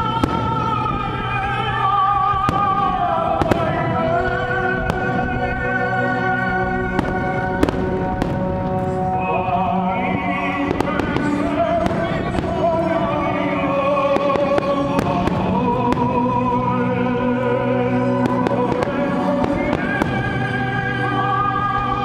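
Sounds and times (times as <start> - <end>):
fireworks bursting: 0.0 - 22.0
operatic singer with vibrato: 0.0 - 22.0
orchestra playing: 0.0 - 22.0.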